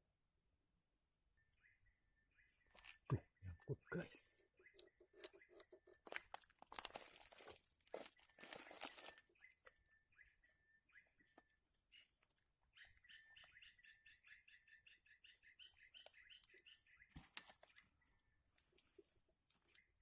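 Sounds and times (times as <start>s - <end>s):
faint bird chirping: 1.3s - 20.0s.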